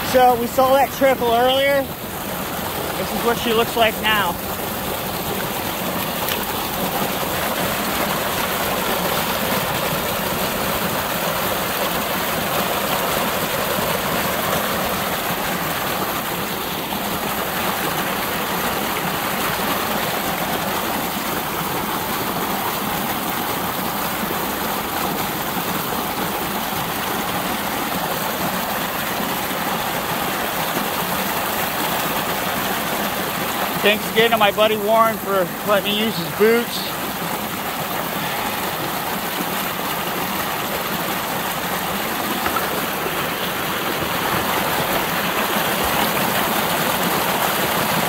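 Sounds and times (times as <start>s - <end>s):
water gushing from drain pipe: 0.0s - 48.0s
water splashing down rocks: 0.0s - 48.0s.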